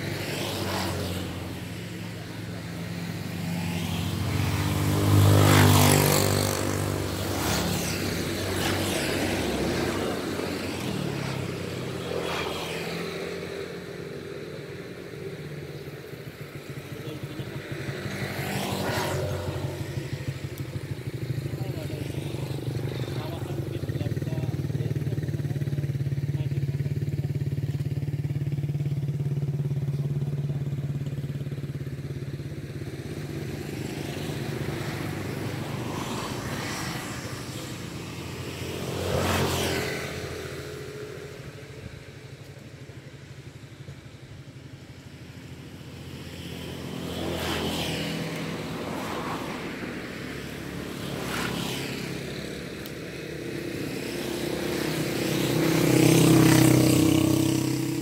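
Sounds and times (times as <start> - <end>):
motorcycle engine hum: 0.0 - 58.0
motorcycles passing by: 0.0 - 58.0.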